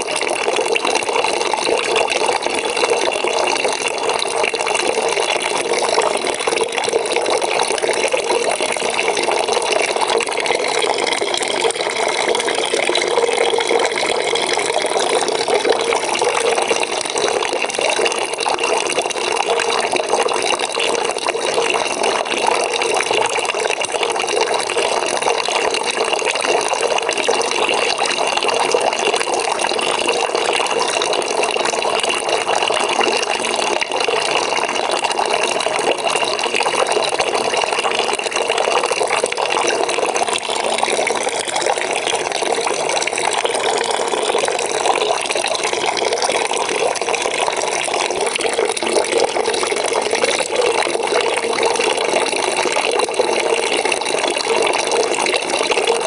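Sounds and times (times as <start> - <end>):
tap water running into bucket: 0.0 - 56.0.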